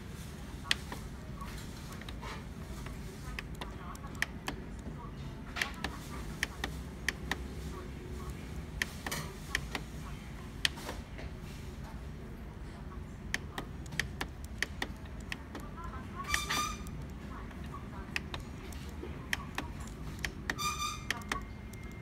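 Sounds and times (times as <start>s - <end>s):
steady low hum: 0.0s - 22.0s
printer buttons clicking: 1.9s - 11.0s, 13.2s - 22.0s.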